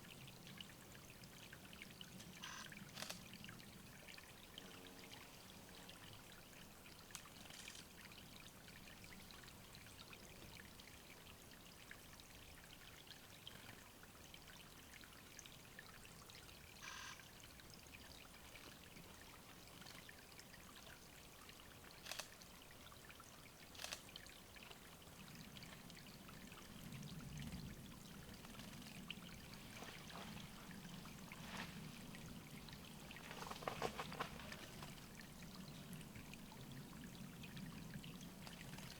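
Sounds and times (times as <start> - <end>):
faint trickle of water: 0.0 - 38.9.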